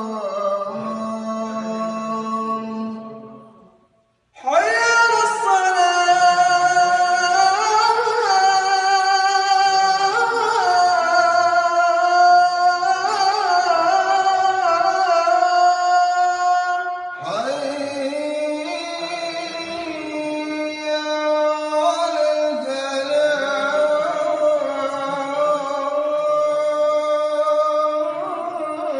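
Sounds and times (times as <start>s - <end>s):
melodic quran recitation: 0.0s - 28.9s.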